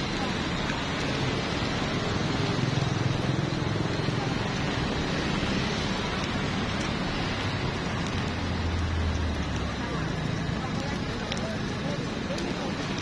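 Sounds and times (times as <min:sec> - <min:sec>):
batter sizzling in a pan: 0:00.0 - 0:13.0.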